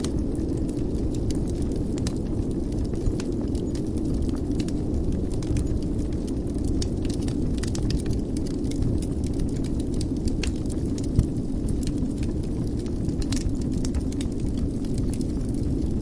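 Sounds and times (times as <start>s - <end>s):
low rumble of fire flames: 0.0s - 16.0s
wood fire crackles and pops: 0.0s - 16.0s.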